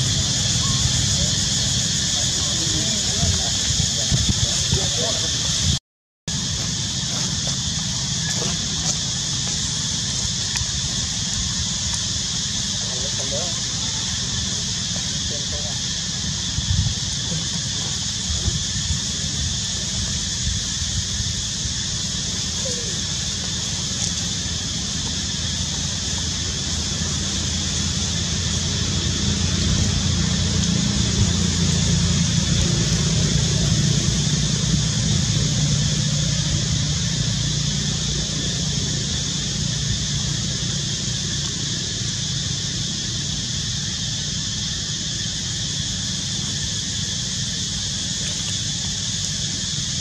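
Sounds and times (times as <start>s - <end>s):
steady high hiss: 0.0s - 50.0s.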